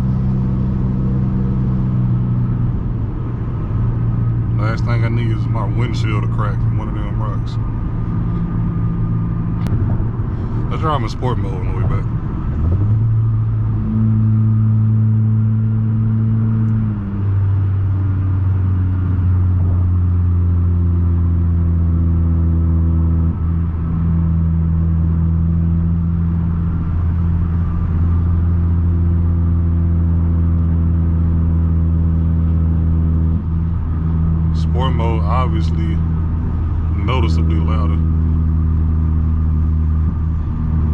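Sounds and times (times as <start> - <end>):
car exhaust droning loudly: 0.0 - 40.9.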